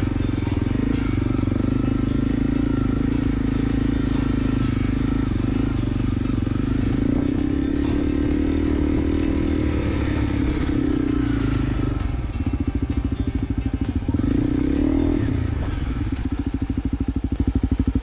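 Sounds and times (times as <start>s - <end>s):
motorcycle engine chugging: 0.0s - 18.0s.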